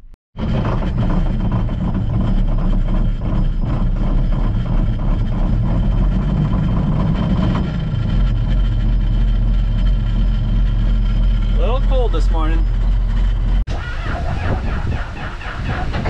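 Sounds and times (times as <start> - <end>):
tractor diesel engine rumbling: 0.4 - 16.0.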